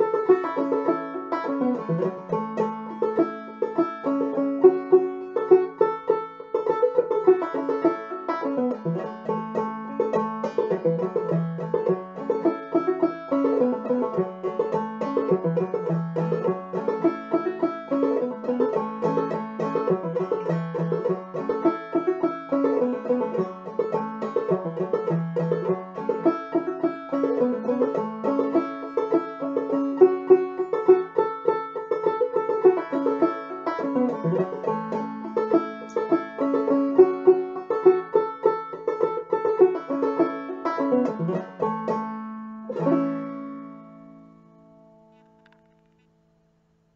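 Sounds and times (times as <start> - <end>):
banjo playing old-time tune: 0.0 - 45.7.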